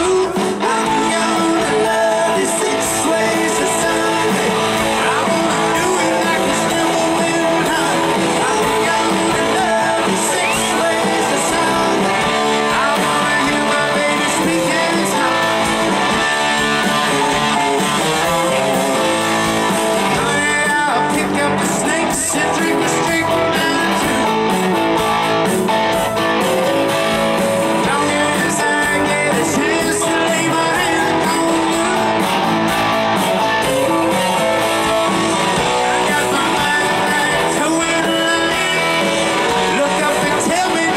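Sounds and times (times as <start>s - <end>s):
drums: 0.0s - 40.9s
electric guitars: 0.0s - 40.9s
keyboard: 0.0s - 40.9s.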